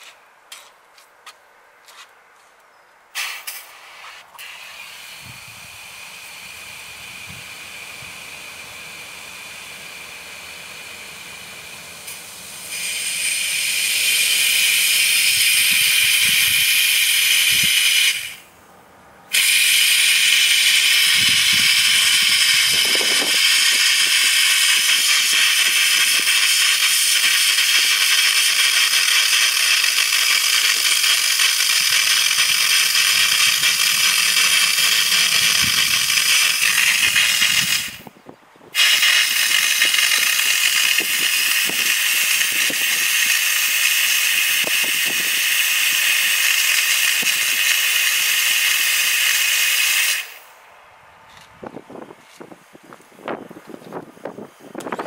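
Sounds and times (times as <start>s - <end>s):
steam hissing: 3.2s - 18.5s, 19.3s - 38.1s, 38.7s - 50.6s.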